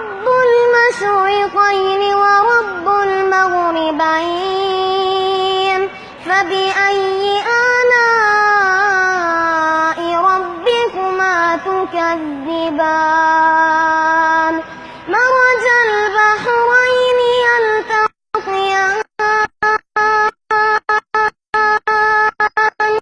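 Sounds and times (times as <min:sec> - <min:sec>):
high voice chanting recitation: 0:00.0 - 0:23.0.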